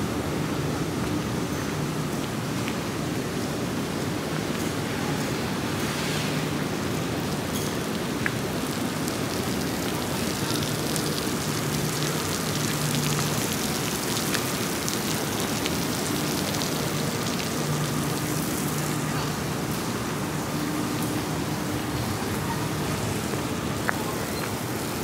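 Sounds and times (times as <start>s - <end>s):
light rain on paths and grass: 0.1s - 25.0s.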